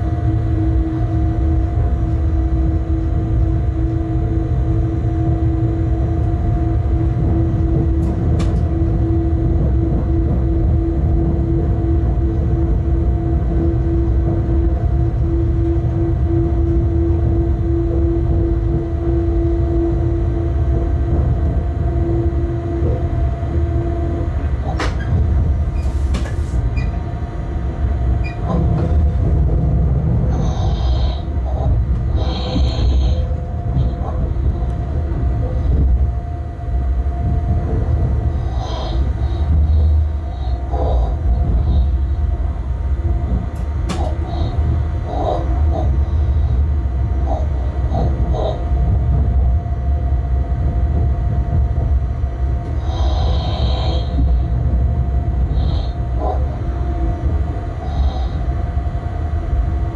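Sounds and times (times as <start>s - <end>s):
locomotive whine: 0.0s - 59.9s
wheels rumbling on track: 0.0s - 59.9s.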